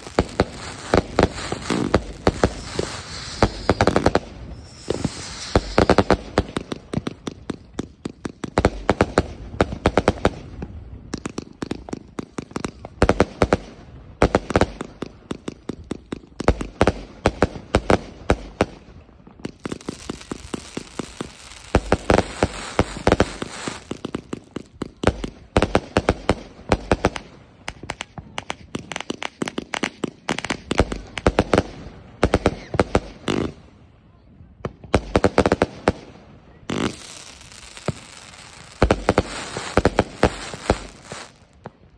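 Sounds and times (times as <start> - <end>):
fireworks popping and banging: 0.0 - 33.6, 34.6 - 41.9
fireworks crackling: 0.0 - 33.9, 34.5 - 41.9.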